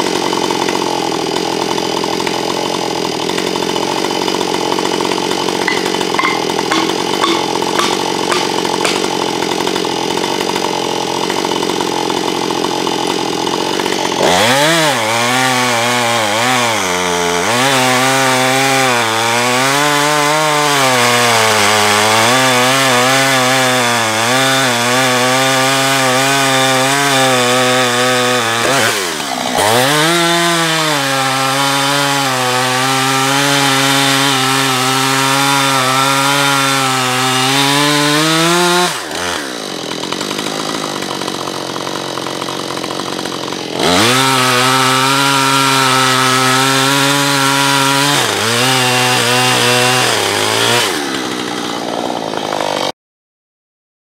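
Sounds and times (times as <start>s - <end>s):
chainsaw idling: 0.0s - 52.9s
chainsaw cutting log: 0.0s - 53.0s.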